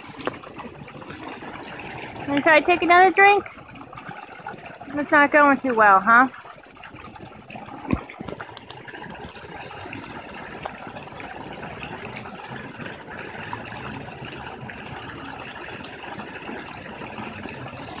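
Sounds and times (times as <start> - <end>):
fountain water splashing into pool: 0.0 - 18.0.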